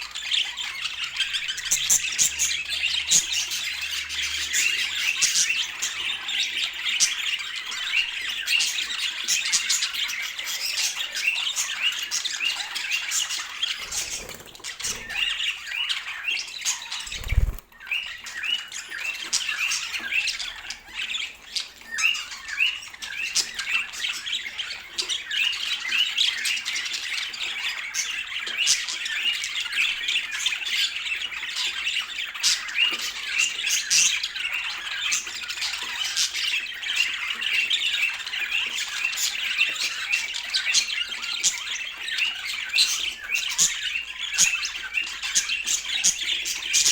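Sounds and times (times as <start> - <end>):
budgerigars chattering and squawking: 0.0 - 46.9.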